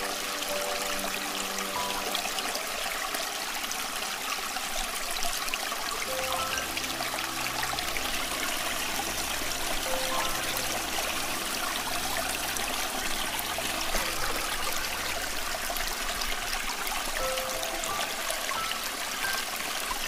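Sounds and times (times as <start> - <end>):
soft background music: 0.0 - 4.2, 5.6 - 20.0
stream flowing: 0.0 - 20.0.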